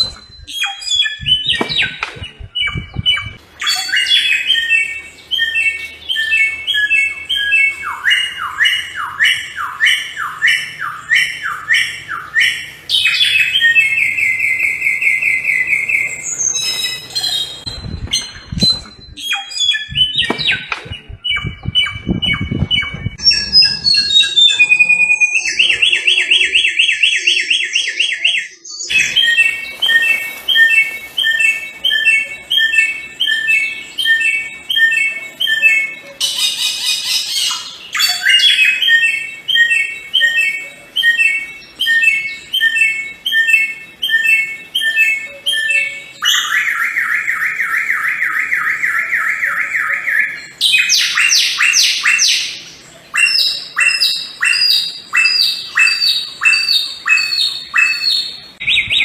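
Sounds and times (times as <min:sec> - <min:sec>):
bird song: 0:00.0 - 0:59.0.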